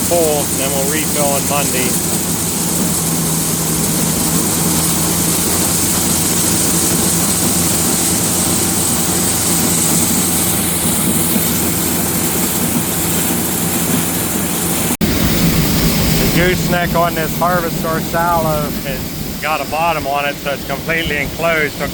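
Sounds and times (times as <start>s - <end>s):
forage blower engine drone: 0.0s - 21.9s.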